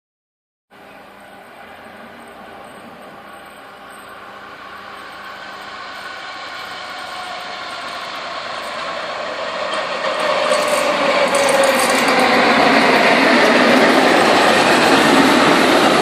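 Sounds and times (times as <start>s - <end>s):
diesel railcar engine hum: 0.7s - 16.0s.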